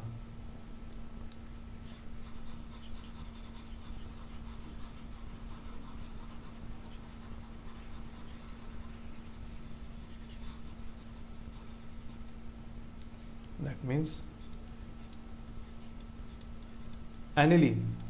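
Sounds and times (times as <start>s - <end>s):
steady low hum: 0.0s - 18.0s
stylus scratching on tablet: 1.8s - 13.6s, 14.3s - 17.2s.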